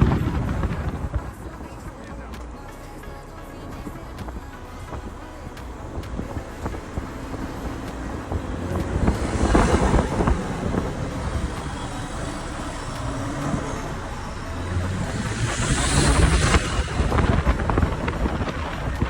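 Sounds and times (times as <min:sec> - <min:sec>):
turbocharged car engine rushing: 0:00.0 - 0:19.0.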